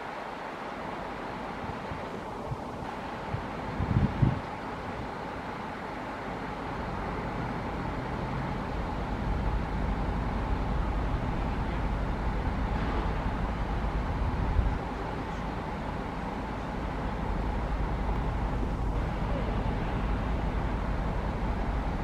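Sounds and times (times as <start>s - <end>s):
jet engines rumbling with whine: 0.0s - 22.0s.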